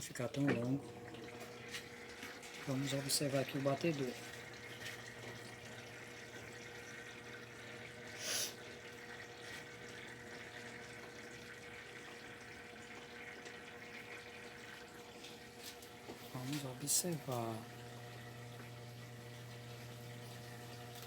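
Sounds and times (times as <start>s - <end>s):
low electrical hum: 0.0s - 21.0s
water rushing into washing machine: 0.0s - 21.0s.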